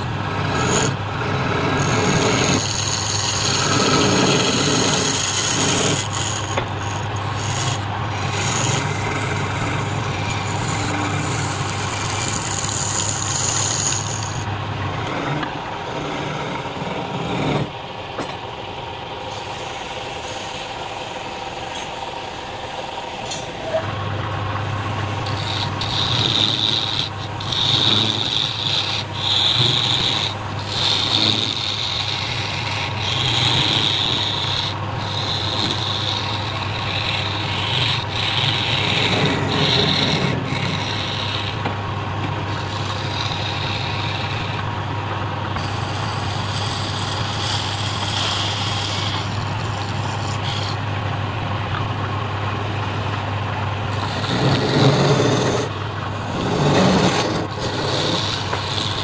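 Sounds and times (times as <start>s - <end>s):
chisel scraping wood on a lathe: 0.0s - 18.4s, 19.1s - 24.0s, 24.6s - 51.8s, 53.9s - 59.0s
lathe humming: 0.0s - 59.0s.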